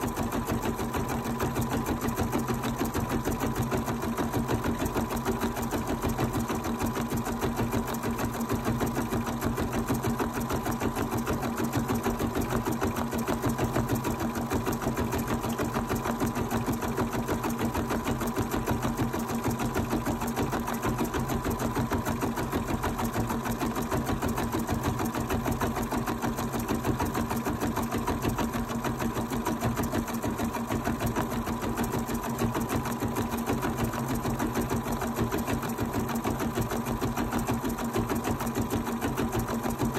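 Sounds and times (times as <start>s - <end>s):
sewing machine motor hum: 0.0s - 39.9s
sewing machine stitching: 0.0s - 39.9s.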